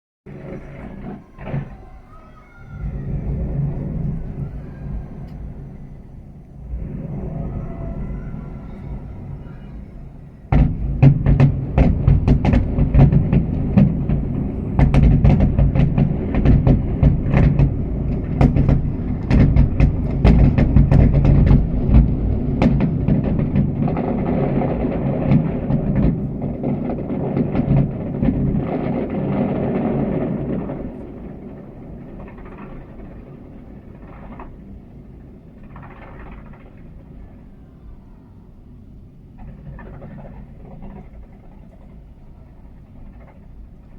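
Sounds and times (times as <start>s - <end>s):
fireworks booming and crackling: 0.3s - 43.9s.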